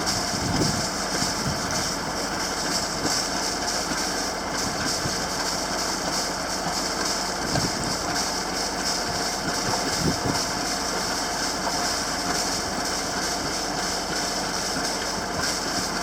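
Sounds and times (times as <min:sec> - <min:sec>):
boat engine droning: 0:00.0 - 0:16.0
wind: 0:00.0 - 0:16.0.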